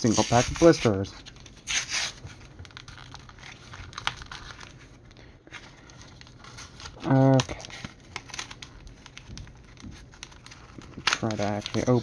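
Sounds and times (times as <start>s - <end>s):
plastic blister packs crinkling: 0.0s - 12.0s.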